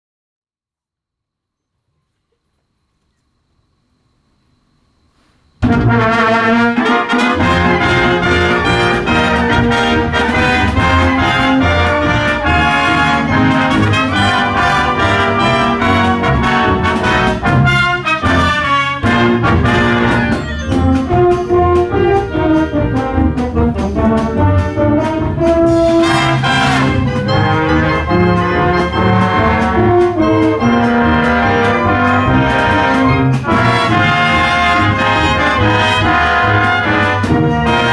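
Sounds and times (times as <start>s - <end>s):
wind band playing brass medley: 5.6s - 37.9s.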